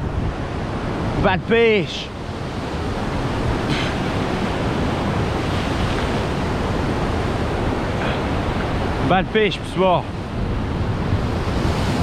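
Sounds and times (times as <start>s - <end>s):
sea surf washing ashore: 0.0s - 12.0s.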